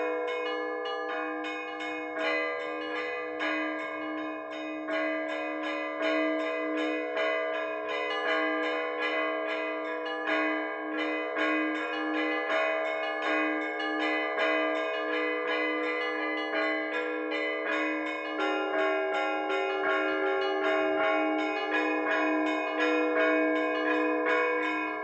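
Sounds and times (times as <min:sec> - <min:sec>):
church bells pealing: 0:00.0 - 0:25.0.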